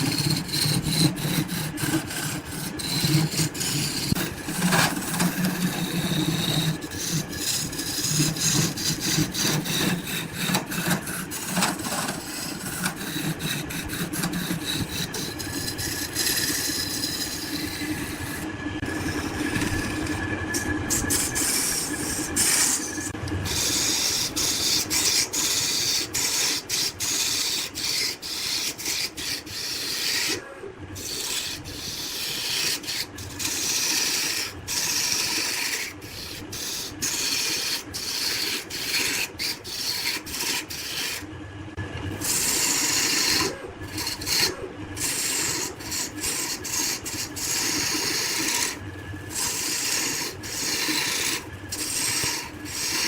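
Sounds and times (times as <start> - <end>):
tool scraping wood on lathe: 0.0 - 53.0.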